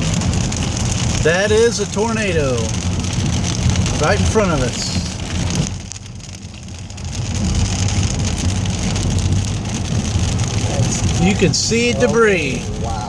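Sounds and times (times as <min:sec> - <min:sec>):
rain pattering on car: 0:00.0 - 0:13.0
vehicle driving rumble: 0:00.0 - 0:13.0.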